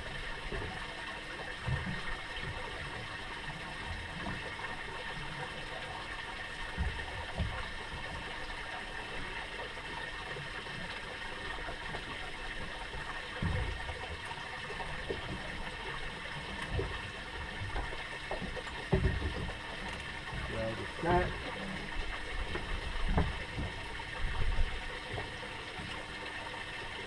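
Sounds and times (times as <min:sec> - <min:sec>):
water lapping against boat hull: 0:00.0 - 0:27.0.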